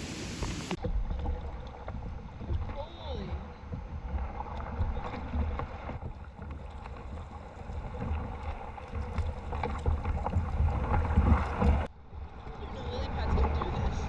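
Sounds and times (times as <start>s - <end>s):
paddle splashes: 0.0s - 14.0s
wind rumble on microphone: 0.0s - 14.0s
paddle knocking against hull: 0.3s - 11.9s.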